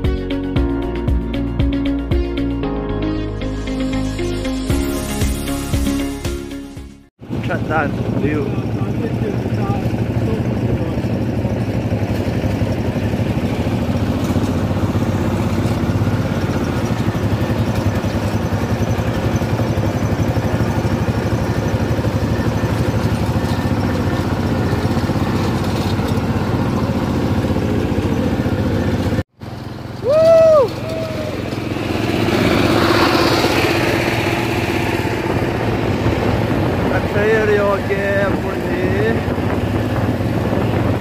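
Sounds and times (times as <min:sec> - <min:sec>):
motor engine running: 0:07.2 - 0:41.0.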